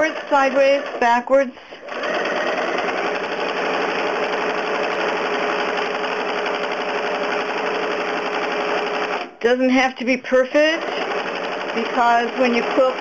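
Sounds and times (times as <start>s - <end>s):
sewing machine motor whine: 0.0s - 1.2s, 1.8s - 9.3s, 10.8s - 13.0s
sewing machine stitch clatter: 0.0s - 1.2s, 1.8s - 9.3s, 10.6s - 13.0s.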